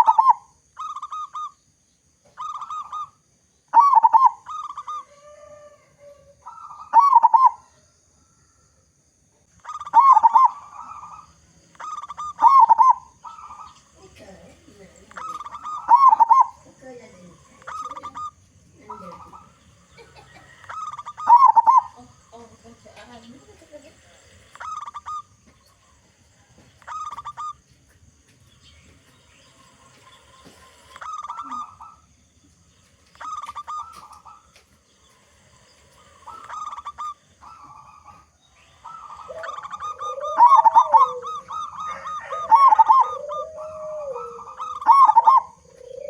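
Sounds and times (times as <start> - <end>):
dove cooing: 0.0 - 1.6, 2.2 - 8.4, 9.6 - 27.6, 28.5 - 32.2, 32.8 - 46.0.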